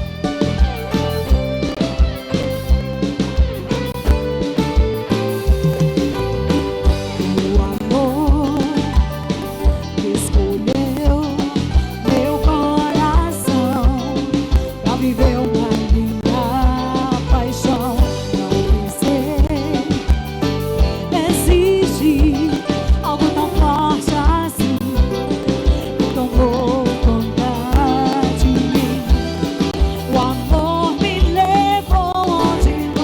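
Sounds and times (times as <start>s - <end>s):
live band playing: 0.0s - 33.0s.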